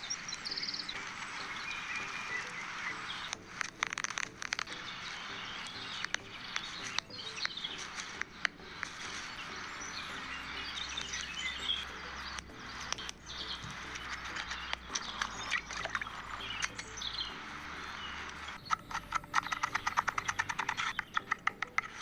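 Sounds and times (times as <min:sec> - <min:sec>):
birds chirping: 0:00.0 - 0:22.0
sharp clicks: 0:00.0 - 0:22.0
steady hiss: 0:00.0 - 0:22.0.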